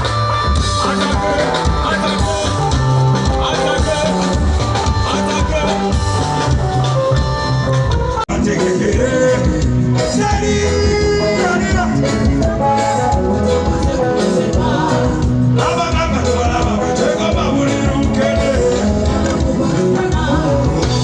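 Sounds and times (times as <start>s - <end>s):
loud music with singing: 0.0s - 21.0s.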